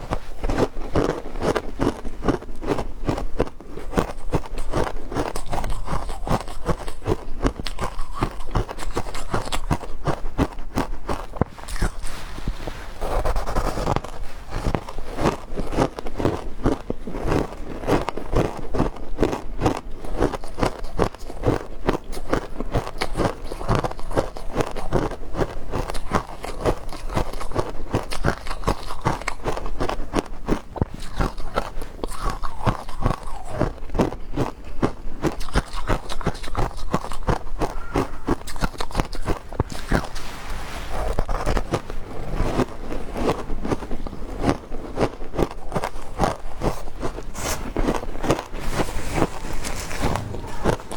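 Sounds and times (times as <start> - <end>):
crisp crunching of ice: 0.0 - 50.9.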